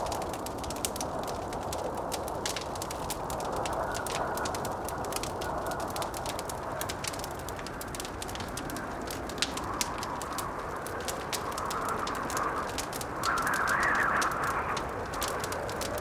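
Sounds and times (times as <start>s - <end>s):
howling blizzard wind: 0.0s - 16.0s
wood fire crackling and popping: 0.0s - 16.0s.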